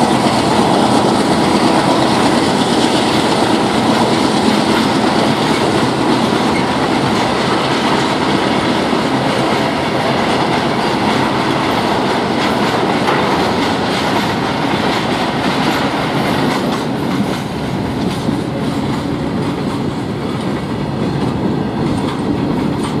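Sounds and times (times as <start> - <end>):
train wheels clattering on rail joints: 0.0 - 23.0.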